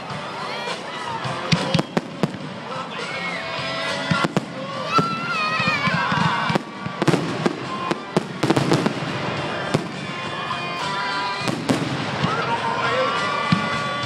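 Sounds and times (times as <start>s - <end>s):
music playing: 0.0s - 14.0s
fireworks bangs and crackles: 1.0s - 14.0s.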